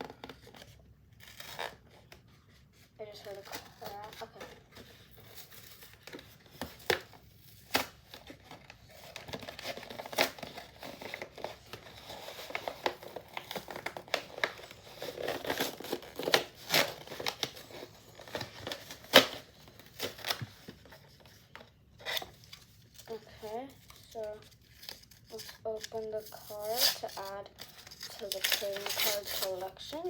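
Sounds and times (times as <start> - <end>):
plastic packaging crinkling and tearing: 0.0 - 30.0.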